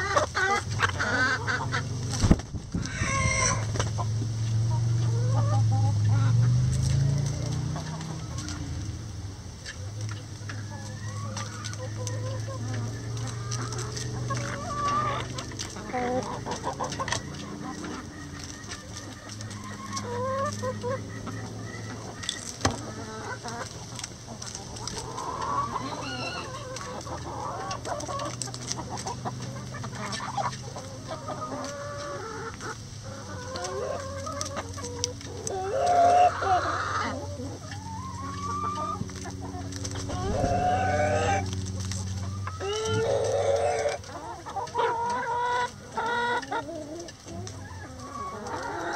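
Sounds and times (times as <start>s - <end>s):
hens clucking: 0.0s - 48.9s.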